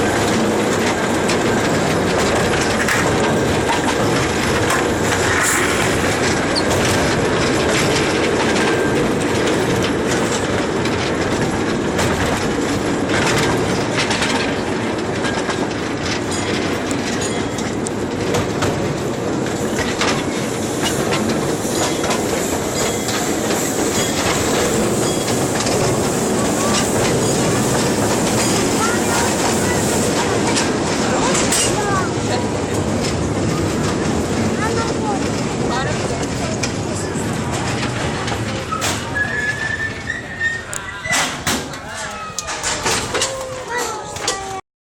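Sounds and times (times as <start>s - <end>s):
train rumbling on rails: 0.0s - 44.6s
wheels clicking over track: 0.0s - 44.6s.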